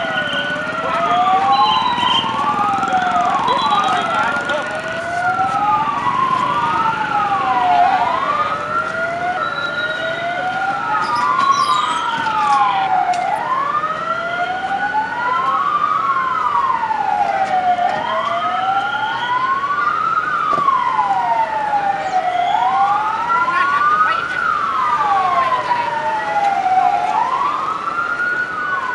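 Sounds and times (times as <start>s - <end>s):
emergency vehicle sirens wailing: 0.0s - 28.9s.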